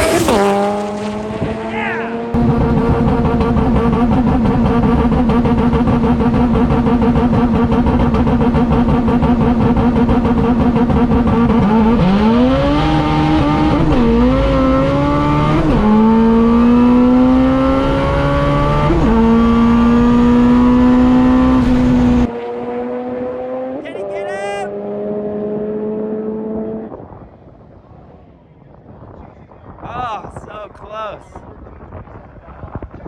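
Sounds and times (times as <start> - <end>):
race car engine revving: 0.0 - 27.1.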